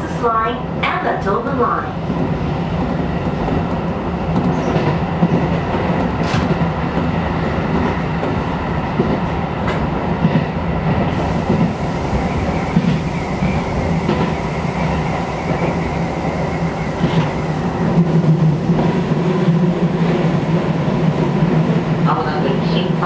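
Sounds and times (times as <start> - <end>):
train wheels rumbling on rail: 0.0 - 23.0
rail joint clicks: 1.3 - 23.0.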